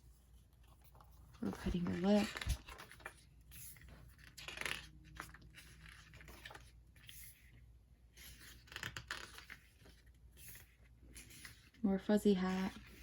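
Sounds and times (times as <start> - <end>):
paper pages rustling: 0.3 - 11.8, 12.4 - 13.0.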